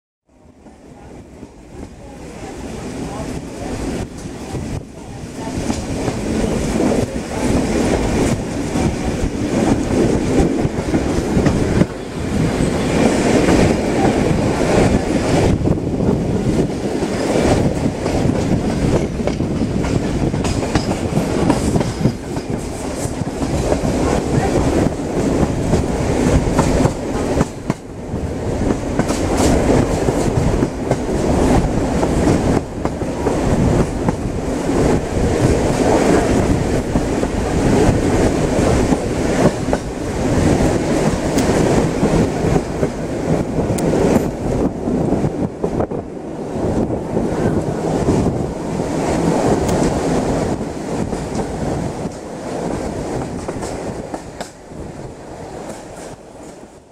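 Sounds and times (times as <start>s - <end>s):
train carriage rushing noise: 0.3s - 56.9s.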